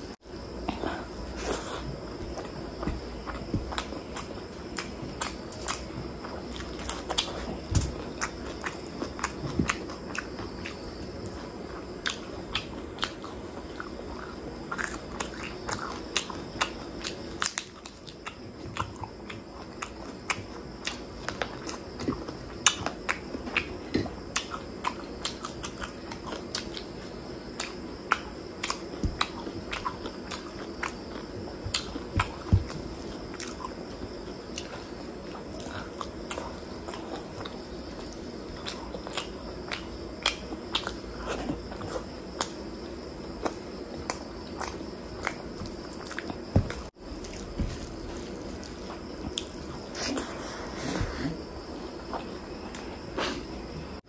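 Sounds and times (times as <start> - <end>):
person chewing with wet mouth sounds: 0.4 - 53.4.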